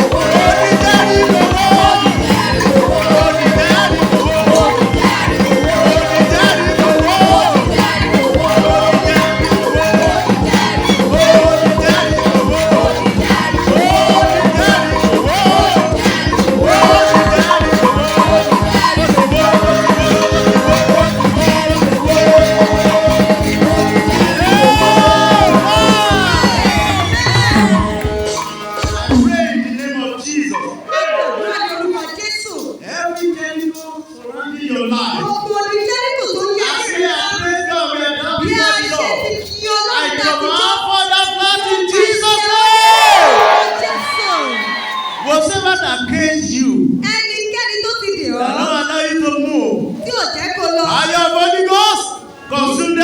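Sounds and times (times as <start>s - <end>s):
shakers and drums beat: 0.0s - 46.6s
people singing praise music: 0.0s - 46.7s.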